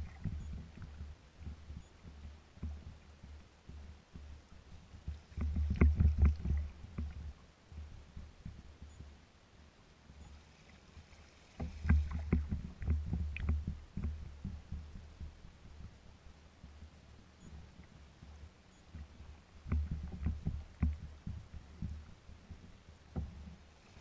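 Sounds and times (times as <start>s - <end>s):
water splashing against kayak hull: 0.0s - 9.2s, 10.0s - 24.0s.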